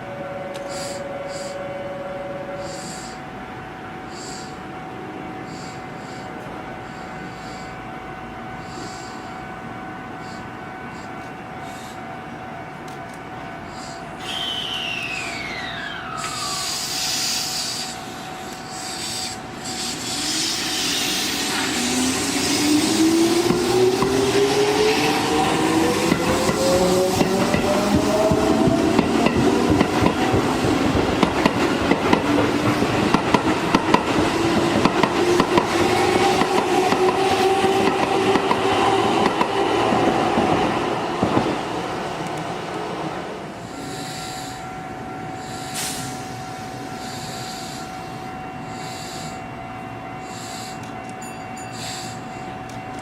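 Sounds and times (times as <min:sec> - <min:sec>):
train wheels rushing on rail: 0:00.0 - 0:53.0
train motor whine rising: 0:00.5 - 0:03.2, 0:04.1 - 0:04.6, 0:05.4 - 0:07.8, 0:08.6 - 0:09.4, 0:13.1 - 0:49.5, 0:50.2 - 0:53.0.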